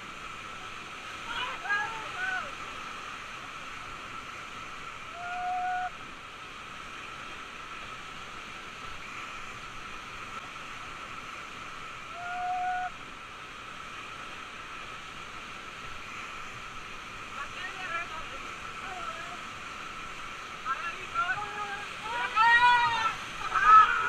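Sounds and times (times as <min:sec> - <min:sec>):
whitewater river rushing: 0:00.0 - 0:24.0.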